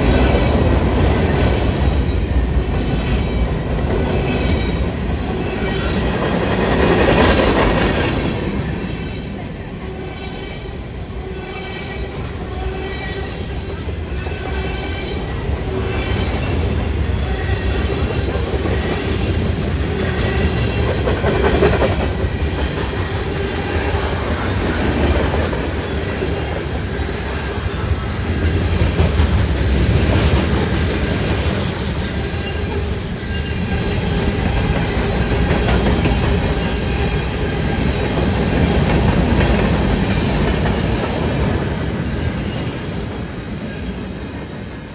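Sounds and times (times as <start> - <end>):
train rolling on rails: 0.0 - 44.9.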